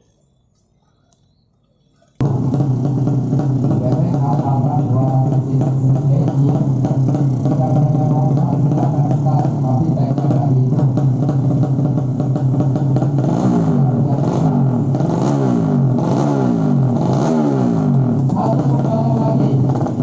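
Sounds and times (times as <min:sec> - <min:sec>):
motorcycle engines revving: 0:02.2 - 0:20.0.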